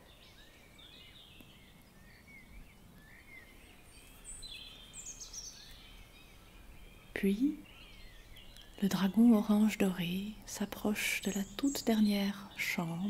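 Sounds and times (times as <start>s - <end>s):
faint birdsong chirping: 0.0s - 13.0s.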